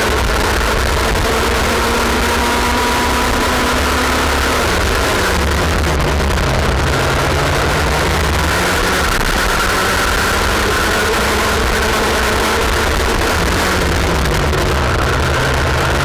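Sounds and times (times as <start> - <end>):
kart engine racing: 0.0 - 16.0
wind noise: 0.0 - 16.0.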